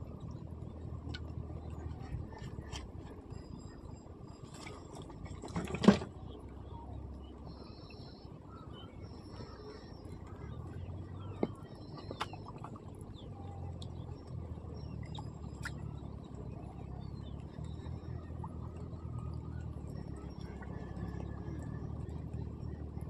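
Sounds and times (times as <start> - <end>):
low steady hum: 0.0 - 23.0
birds chirping: 0.3 - 23.0.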